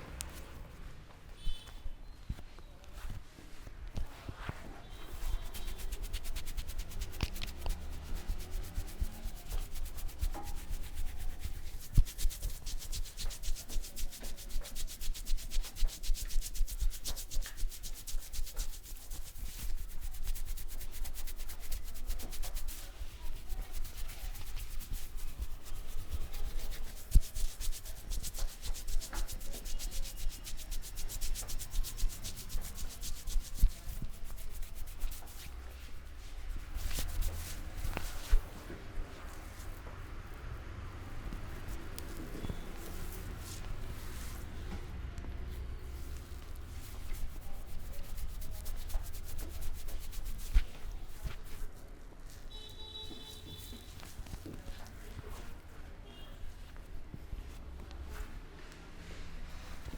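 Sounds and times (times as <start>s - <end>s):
hands rubbing hair and scalp: 3.0s - 44.9s, 45.5s - 55.7s, 59.4s - 59.9s.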